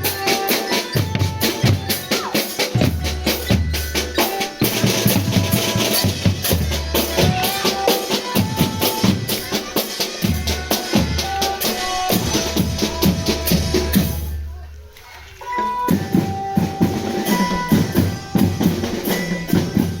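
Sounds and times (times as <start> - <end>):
snare and bass drums beat: 0.0 - 14.6, 15.5 - 20.0.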